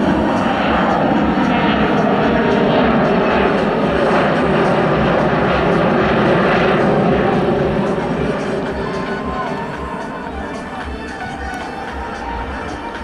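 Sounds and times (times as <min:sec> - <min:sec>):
jet passing overhead: 0:00.0 - 0:13.0.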